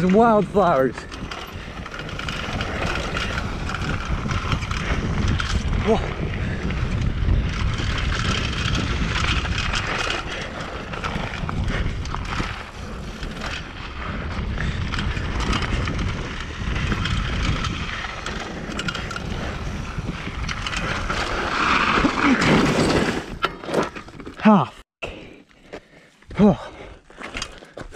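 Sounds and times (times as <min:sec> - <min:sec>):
wind rushing over microphone: 0:00.0 - 0:23.5
bike clattering over bumps: 0:00.0 - 0:24.5
bike tyres rumbling over dirt: 0:00.0 - 0:24.8.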